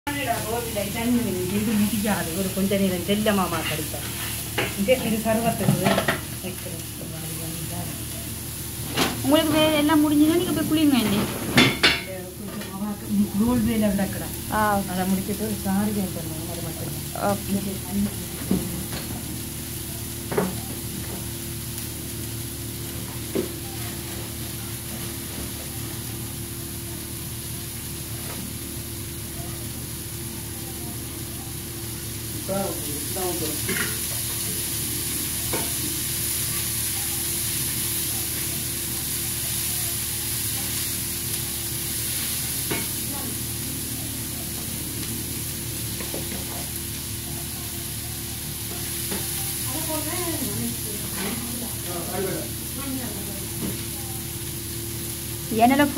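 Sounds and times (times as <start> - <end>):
vegetables sizzling on a griddle: 0.1 - 55.9
water hissing on hot plate: 0.1 - 55.9.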